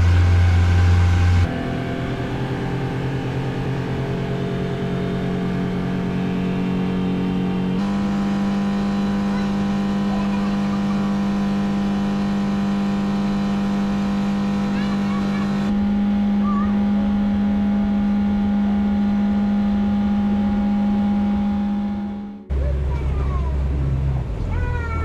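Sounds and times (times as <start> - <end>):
outboard motor droning: 0.0 - 25.0.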